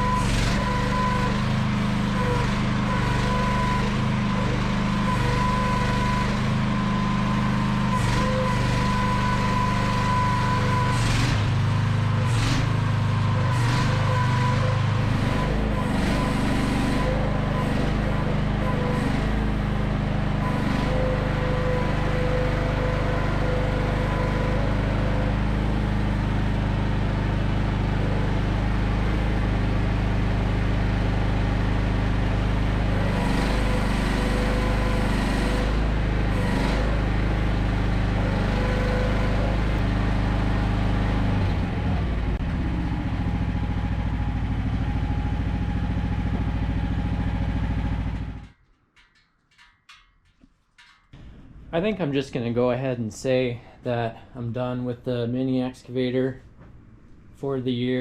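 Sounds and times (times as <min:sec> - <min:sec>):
small gasoline engine running: 0:00.0 - 0:48.6.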